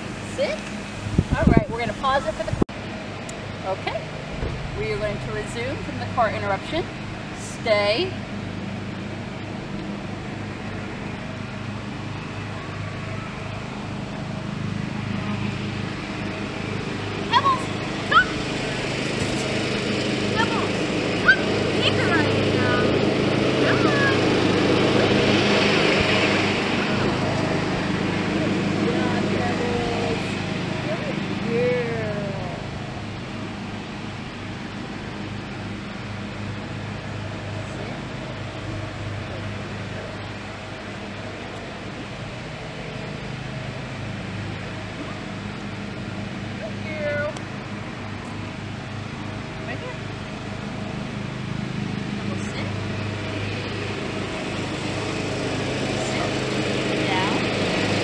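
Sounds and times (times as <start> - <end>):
low engine hum: 0.0 - 58.0.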